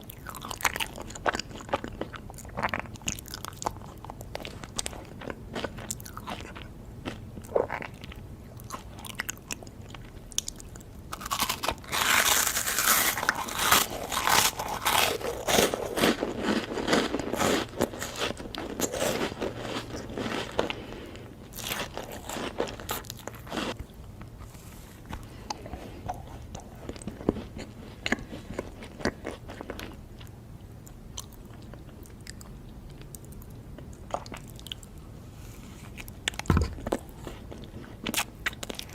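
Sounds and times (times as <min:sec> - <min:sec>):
crunchy bites and chewing: 0:00.0 - 0:30.3, 0:36.0 - 0:38.9.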